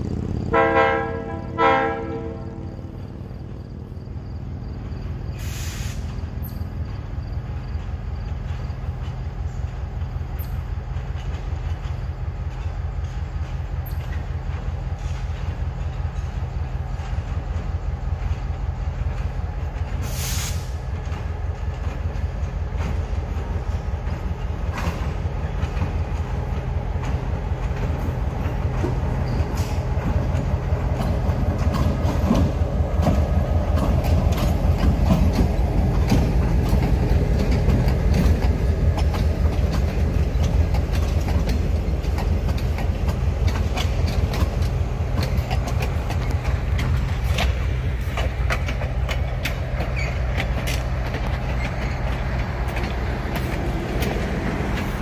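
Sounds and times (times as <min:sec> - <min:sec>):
diesel locomotive engine drone: 0:00.0 - 0:55.0
train wheels clicking over rail joints: 0:00.0 - 0:55.0.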